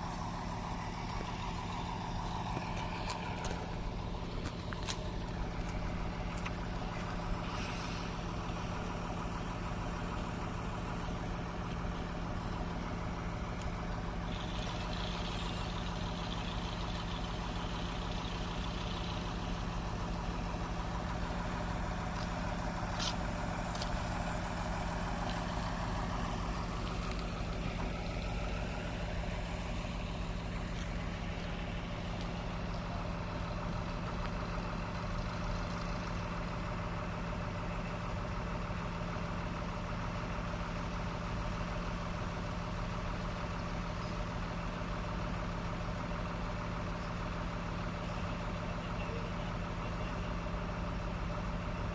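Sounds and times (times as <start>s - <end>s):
engine humming: 0.0s - 51.9s.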